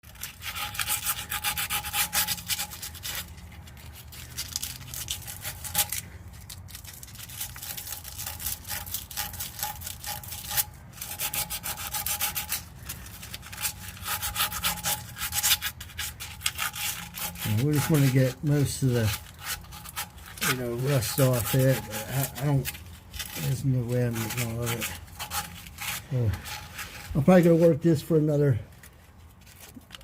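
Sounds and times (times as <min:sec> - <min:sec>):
sandpaper scrubbing rusty metal: 0:00.0 - 0:28.2.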